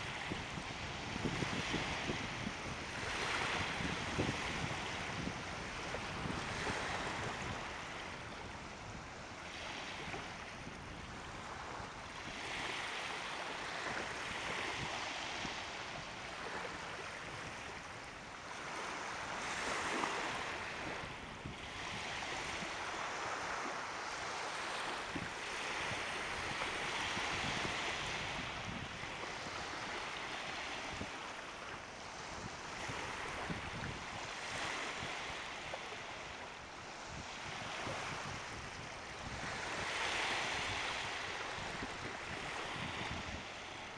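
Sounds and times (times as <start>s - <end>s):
small waves breaking on sand: 0.0s - 43.9s.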